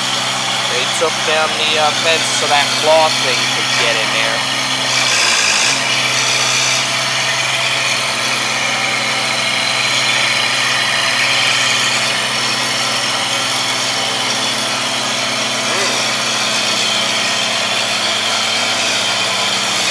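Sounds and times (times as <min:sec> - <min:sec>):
work machine engine running: 0:00.0 - 0:19.9.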